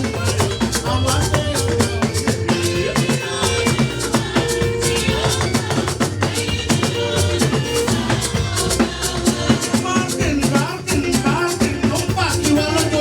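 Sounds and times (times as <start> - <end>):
church band playing a hymn: 0.0 - 13.0
drum kit beat: 0.0 - 13.0
hand percussion: 0.0 - 13.0.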